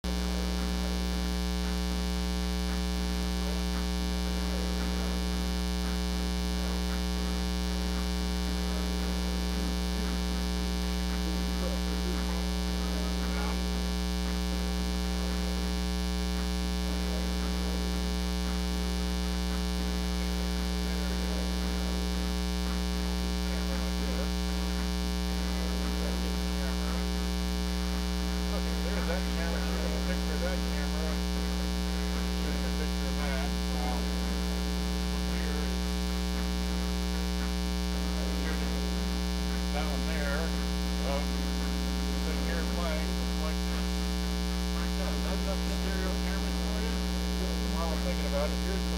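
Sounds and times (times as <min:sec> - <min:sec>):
mains hum with buzz: 0:00.0 - 0:48.9.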